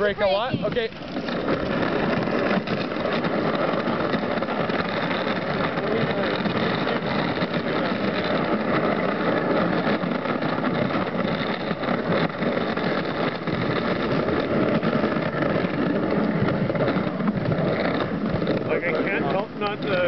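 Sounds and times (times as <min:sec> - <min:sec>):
sled knocks and rattles: 0:00.0 - 0:20.0
sled runners scraping over snow: 0:00.0 - 0:20.0.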